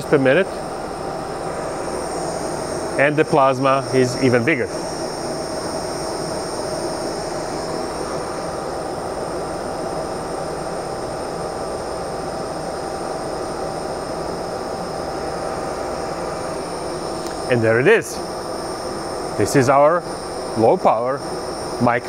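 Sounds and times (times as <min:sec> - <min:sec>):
high whines: 0:00.0 - 0:22.0.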